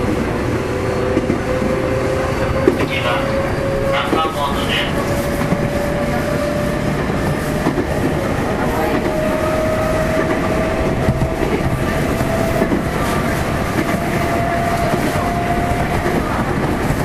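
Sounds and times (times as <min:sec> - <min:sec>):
rail rumble: 0:00.0 - 0:17.0.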